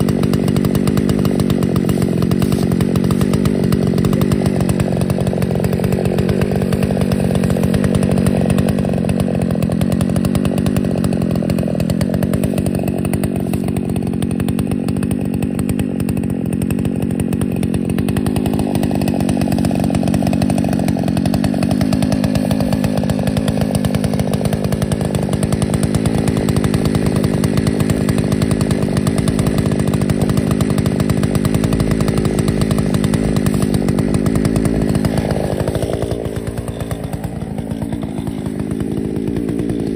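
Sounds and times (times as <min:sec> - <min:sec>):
chainsaw cutting log at full throttle: 0:00.0 - 0:39.9.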